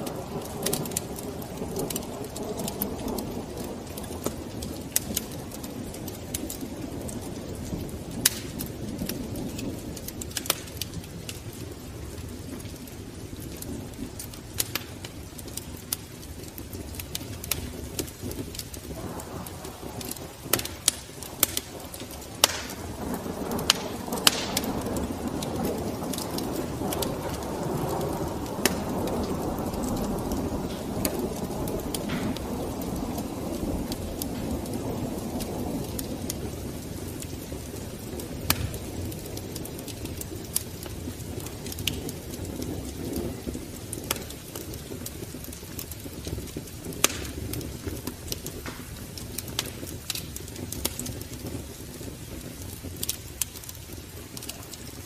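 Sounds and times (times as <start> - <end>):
fire crackling and popping: 0.0 - 55.0
fire flames rumbling: 0.0 - 55.0.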